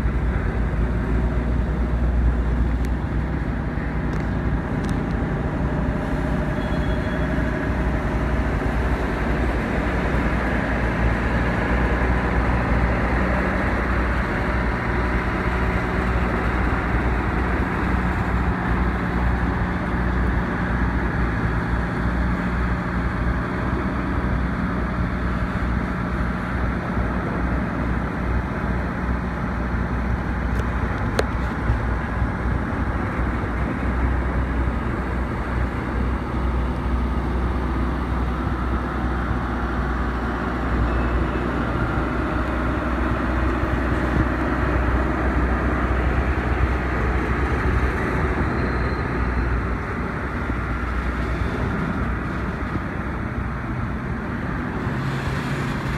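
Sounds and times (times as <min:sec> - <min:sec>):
train rumbling by: 0:00.0 - 0:55.9.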